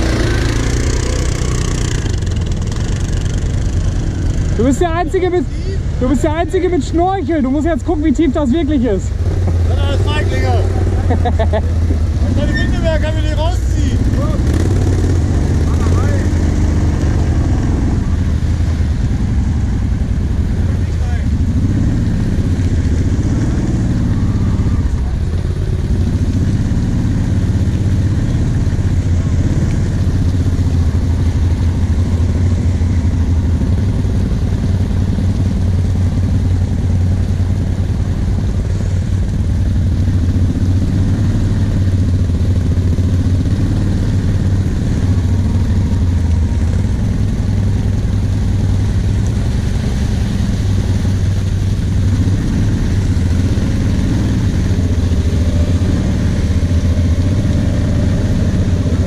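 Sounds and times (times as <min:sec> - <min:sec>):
quad engine wading through water: 0:00.0 - 0:59.0.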